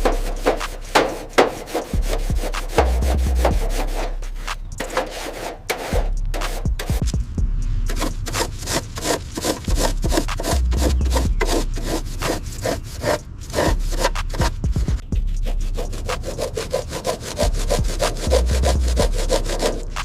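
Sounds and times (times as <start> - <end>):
hand rubbing strokes on a surface: 0.0 - 6.9, 7.9 - 20.0.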